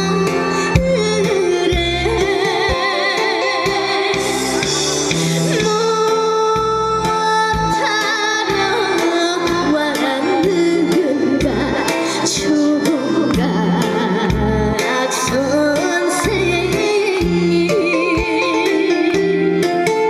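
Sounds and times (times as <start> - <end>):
woman singing with vibrato: 0.0 - 19.7
instrumental accompaniment with low beat: 0.0 - 20.0.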